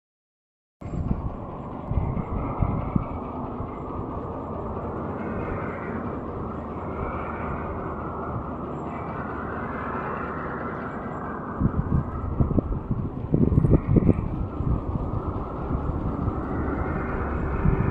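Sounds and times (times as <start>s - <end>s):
low buffets: 0.8s - 17.9s
vehicle engine rumbling: 0.8s - 17.9s.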